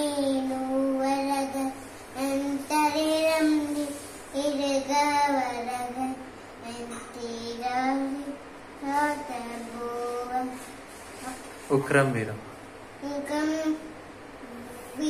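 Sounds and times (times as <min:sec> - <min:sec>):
child singing a chant: 0:00.0 - 0:11.4, 0:13.0 - 0:15.0.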